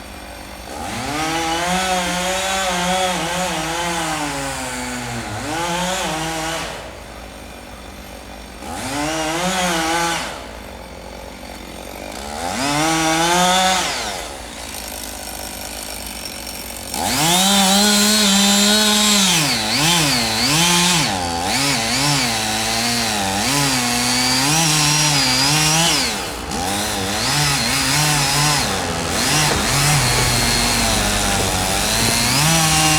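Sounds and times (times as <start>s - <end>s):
chainsaw revving and cutting wood: 0.0s - 32.9s.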